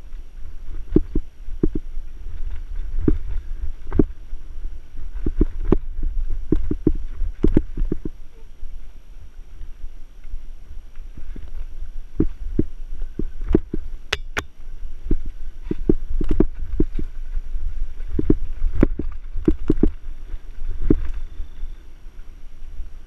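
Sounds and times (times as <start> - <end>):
bike tyres rumbling on trail: 0.0 - 23.0.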